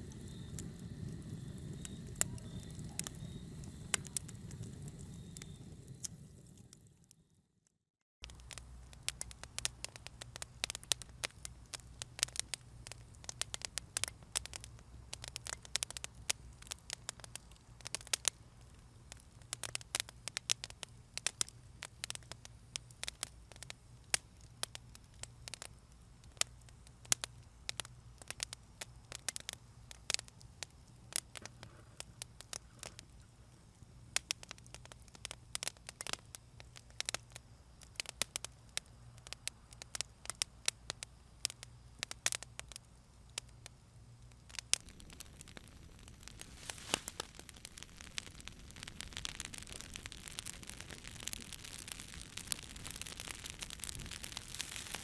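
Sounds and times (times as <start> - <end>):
wood fire popping and snapping: 0.0 - 7.1, 8.2 - 55.0
low rumble of burning: 0.0 - 7.5, 8.2 - 55.0.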